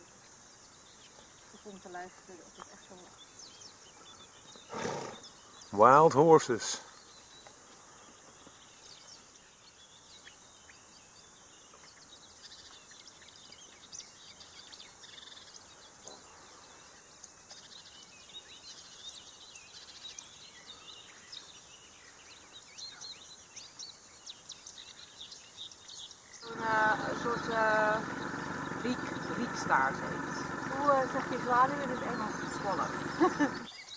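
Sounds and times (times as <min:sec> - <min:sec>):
background hiss: 0:00.0 - 0:33.9
songbirds chirping: 0:00.0 - 0:33.9.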